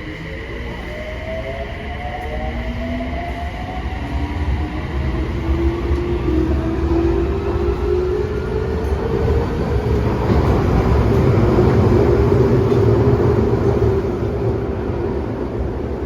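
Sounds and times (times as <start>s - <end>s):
rumble of wheels on track: 0.0s - 16.0s.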